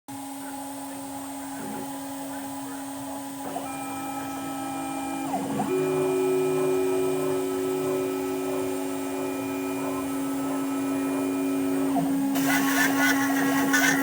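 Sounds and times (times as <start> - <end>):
cnc router motor whine: 0.1 - 14.0.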